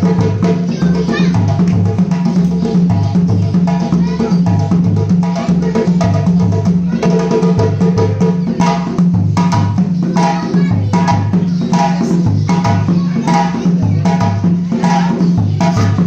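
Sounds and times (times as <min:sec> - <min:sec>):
rhythmic percussion music with bass: 0:00.0 - 0:16.0.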